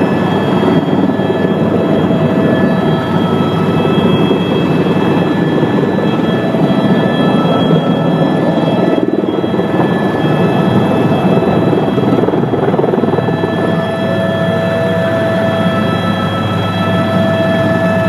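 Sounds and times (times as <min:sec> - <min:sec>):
helicopter rotor and engine noise: 0:00.0 - 0:18.0
high turbine whine: 0:00.0 - 0:18.0.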